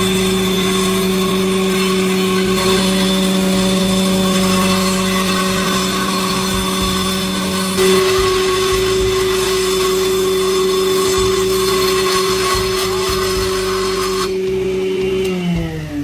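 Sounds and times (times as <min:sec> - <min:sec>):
woodworking machine motor humming: 0:00.0 - 0:16.0.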